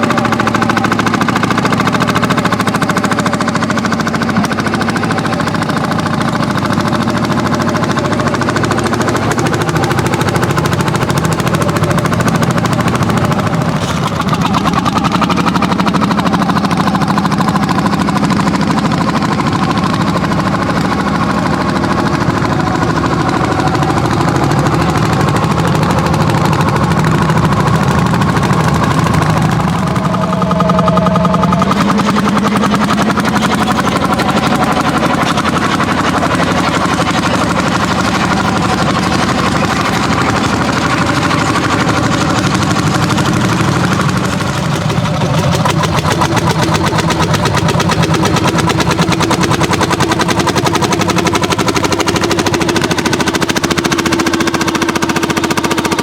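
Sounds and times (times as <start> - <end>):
tractor engines running under load: 0.0 - 56.0.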